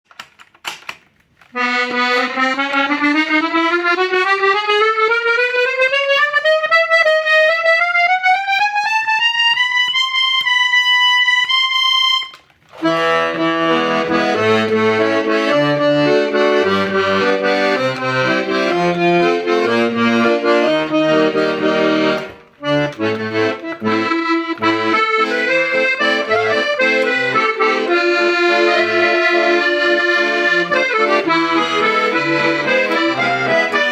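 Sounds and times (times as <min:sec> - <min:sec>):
accordion playing: 0:01.4 - 0:33.9.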